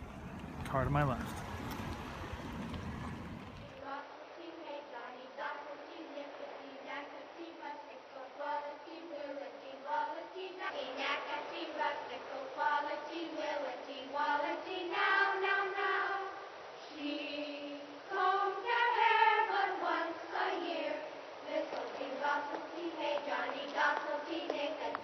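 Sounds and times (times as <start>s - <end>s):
children singing in unison: 0.0s - 25.0s.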